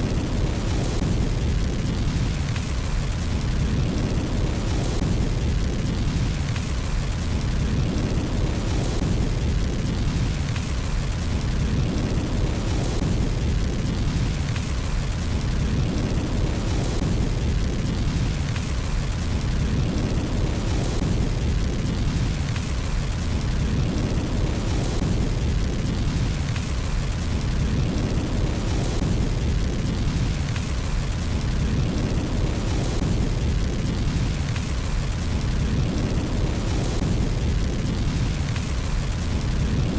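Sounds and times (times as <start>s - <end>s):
fire hissing: 0.0s - 39.9s
fireplace fire crackling: 0.0s - 39.9s.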